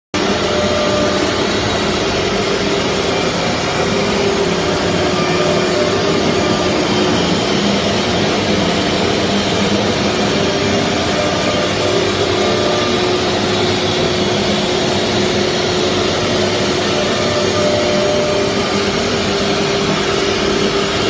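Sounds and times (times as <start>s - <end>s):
cnc router running: 0.2s - 21.0s.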